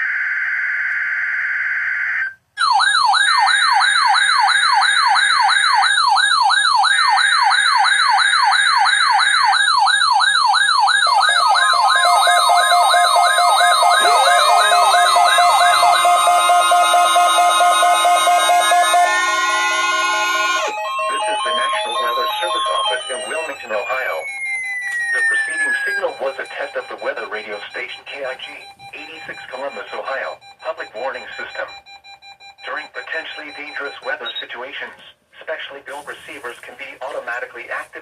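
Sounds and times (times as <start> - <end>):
warbling alarm tone: 0.0 - 34.2
gliding alarm tones: 0.0 - 34.6.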